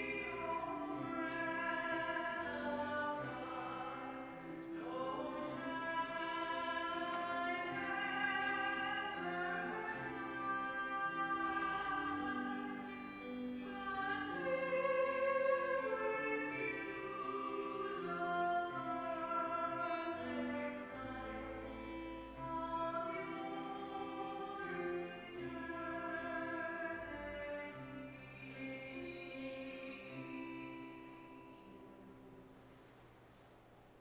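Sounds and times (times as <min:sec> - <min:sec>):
solo voice singing a hymn: 0:00.0 - 0:31.7.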